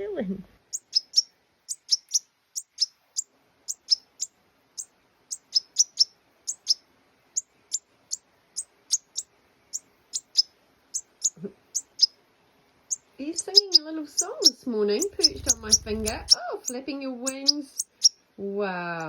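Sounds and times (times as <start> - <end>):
goldfinch chirping: 0.7 - 6.8, 7.4 - 12.1, 12.9 - 18.2.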